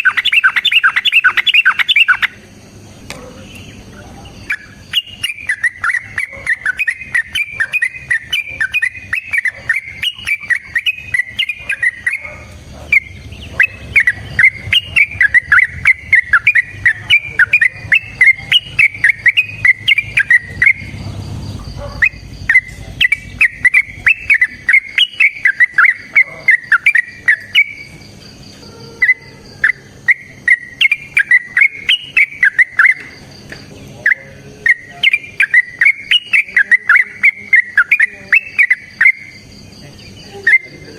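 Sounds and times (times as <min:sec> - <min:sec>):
bird singing whistled notes: 0:00.0 - 0:02.4, 0:03.5 - 0:40.9.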